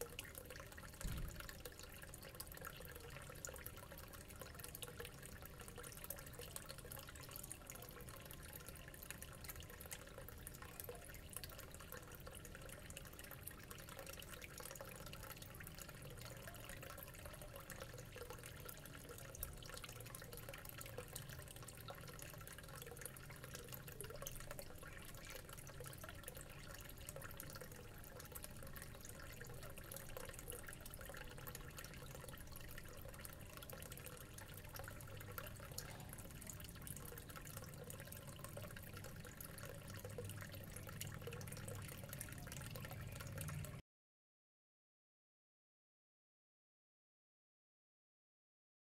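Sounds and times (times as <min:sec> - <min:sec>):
aquarium water bubbling: 0:00.0 - 0:43.8.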